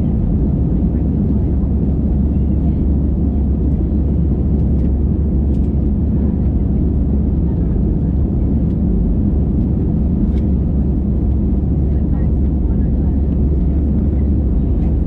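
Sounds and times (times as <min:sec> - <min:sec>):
jet engine roar in cabin: 0:00.0 - 0:15.0.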